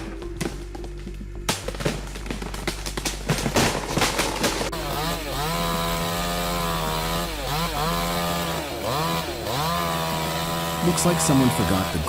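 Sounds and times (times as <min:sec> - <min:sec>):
chainsaw cutting wood: 0:02.3 - 0:12.0.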